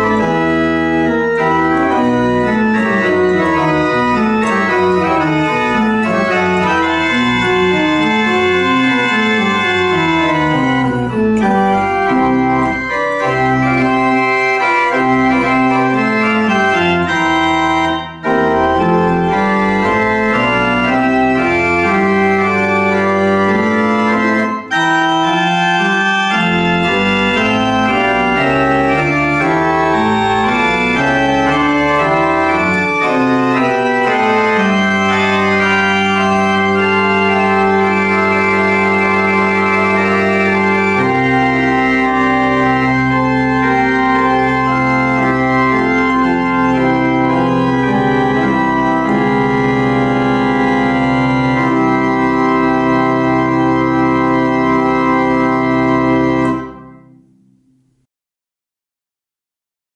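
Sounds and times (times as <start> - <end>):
pipe organ chords: 0.0 - 57.9.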